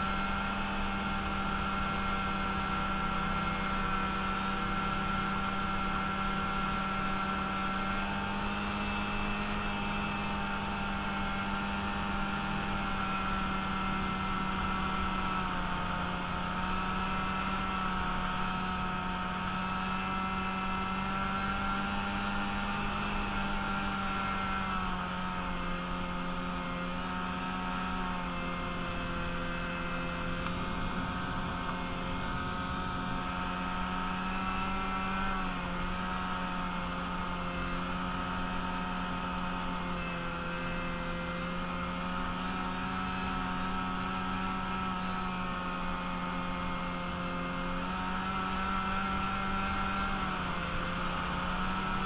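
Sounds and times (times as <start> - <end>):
vehicle engine at high revs: 0.0 - 52.0.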